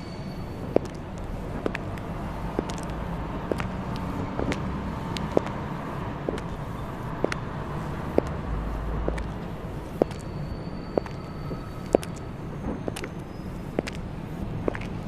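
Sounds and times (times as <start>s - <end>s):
high heels clicking on pavement: 0.0s - 15.0s
road traffic hum: 0.0s - 15.0s.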